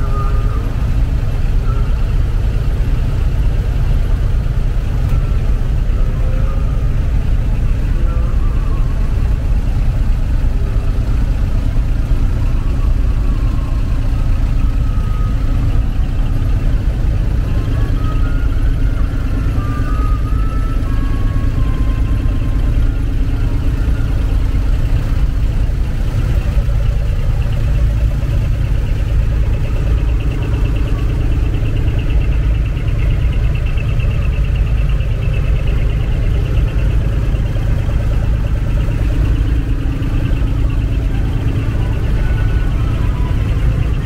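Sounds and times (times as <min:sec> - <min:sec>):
truck engines idling: 0:00.0 - 0:44.0.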